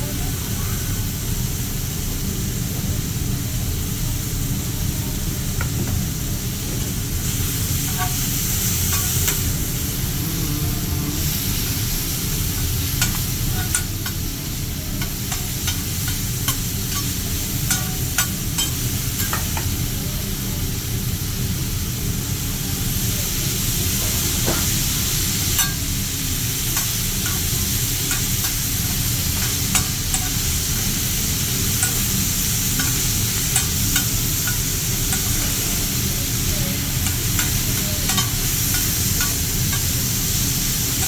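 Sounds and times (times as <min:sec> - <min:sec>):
food sizzling on a griddle: 0:00.0 - 0:41.0.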